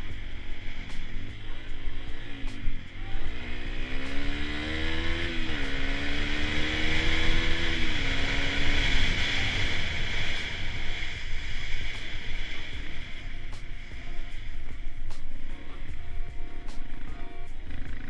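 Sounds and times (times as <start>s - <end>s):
dirt bike engine revving: 0.0s - 14.4s, 15.8s - 18.0s.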